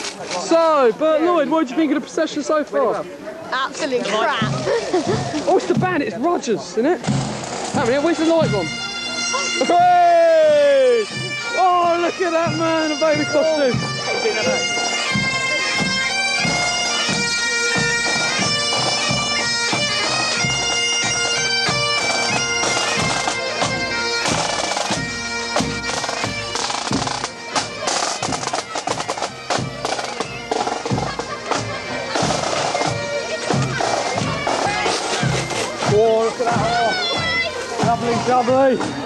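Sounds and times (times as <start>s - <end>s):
drums beating time: 4.2s - 39.0s
bagpipes playing a melody: 7.0s - 39.0s.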